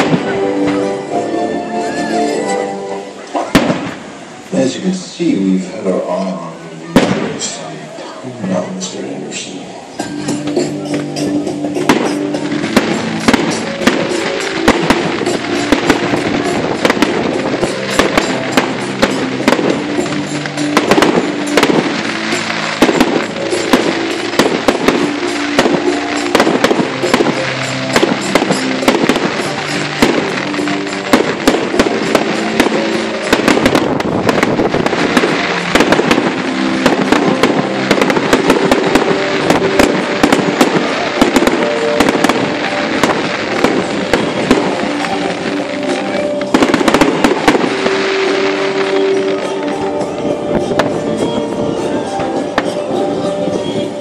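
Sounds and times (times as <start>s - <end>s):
fireworks bangs and crackles: 0.0s - 1.2s, 1.8s - 54.0s
music playing: 0.0s - 54.0s.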